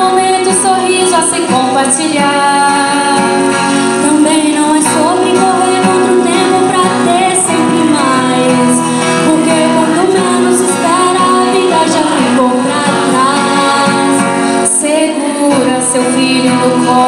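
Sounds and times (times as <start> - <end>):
instrumental backing: 0.0 - 17.0
woman singing a slow ballad: 0.0 - 17.0.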